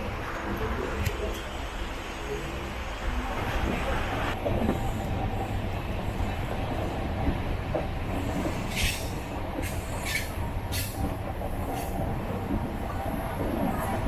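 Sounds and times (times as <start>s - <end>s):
train coach rumbling on rails: 0.0s - 14.0s.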